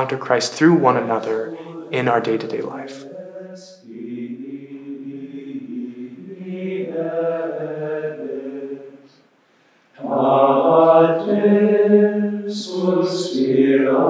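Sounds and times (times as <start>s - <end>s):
men singing a slow chant: 1.2s - 9.0s, 10.0s - 14.0s.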